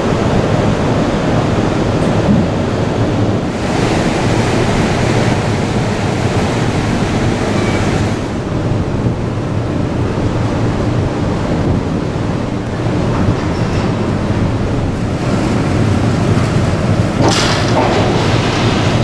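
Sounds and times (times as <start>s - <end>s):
ferry engines humming: 0.0s - 19.0s
water churned by propellers: 0.0s - 19.0s
wind buffeting microphone: 0.0s - 19.0s.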